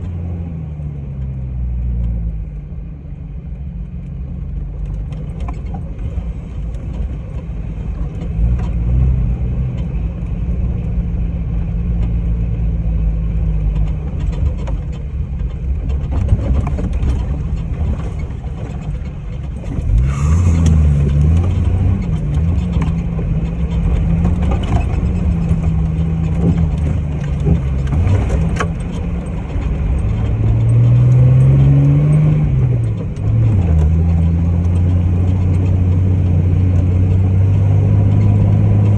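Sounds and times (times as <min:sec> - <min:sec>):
car engine revving: 0:05.0 - 0:38.9.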